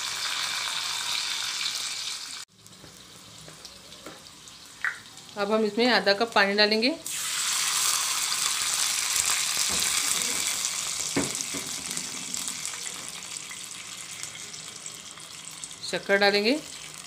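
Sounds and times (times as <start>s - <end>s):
loud oil sizzle: 0.0s - 17.0s.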